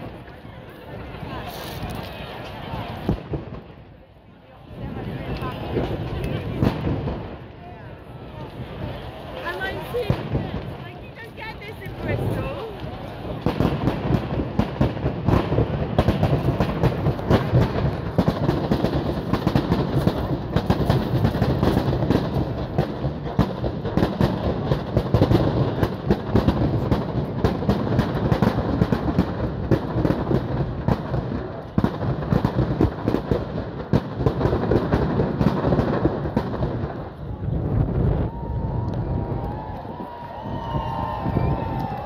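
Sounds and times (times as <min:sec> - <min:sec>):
bonfire crackling and popping: 0:00.0 - 0:42.0
low rush of flames: 0:00.0 - 0:42.0.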